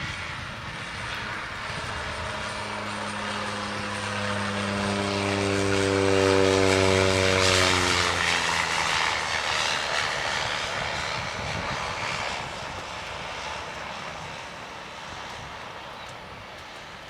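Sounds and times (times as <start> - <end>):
turboprop plane passing: 0.0 - 17.0.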